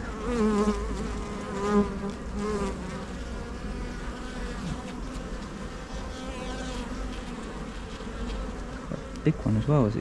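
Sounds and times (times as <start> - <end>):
honey bees buzzing: 0.0 - 10.0.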